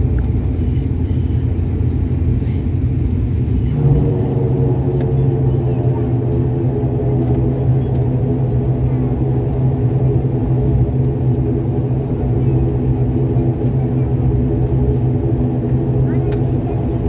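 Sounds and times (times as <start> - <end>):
airliner engine hum: 0.0 - 17.0
plane rolling on runway rumble: 0.0 - 17.0.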